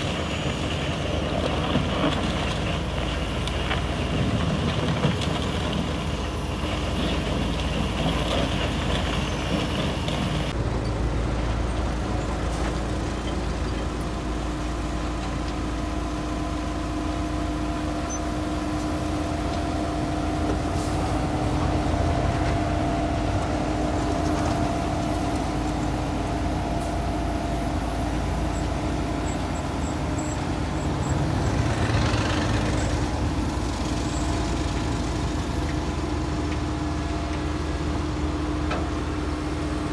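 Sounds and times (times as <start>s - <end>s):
heavy diesel machinery drone: 0.0s - 39.9s.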